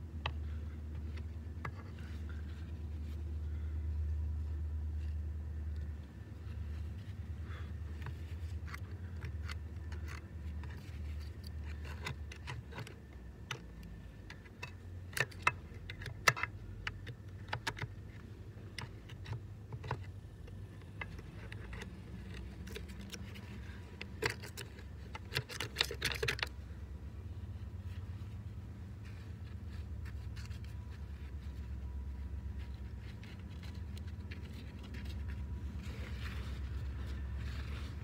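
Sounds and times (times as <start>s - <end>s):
metallic clicks and scrapes: 4.4s - 38.0s.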